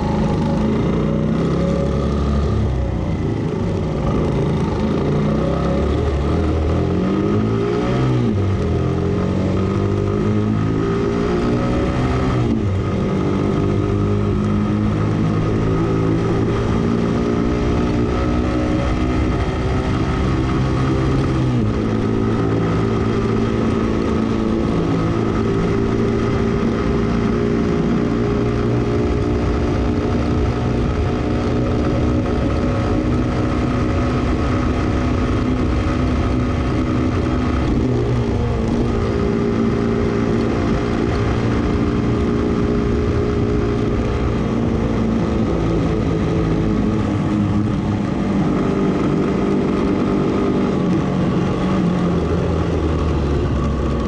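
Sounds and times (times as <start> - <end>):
motorcycle engine riding along: 0.0 - 54.0
wind and road noise: 0.0 - 54.0.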